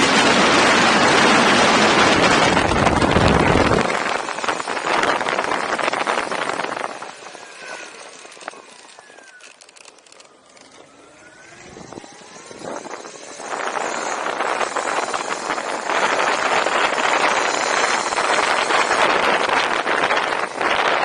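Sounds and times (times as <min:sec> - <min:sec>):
wind buffeting microphone: 0:00.0 - 0:09.4, 0:11.0 - 0:21.0.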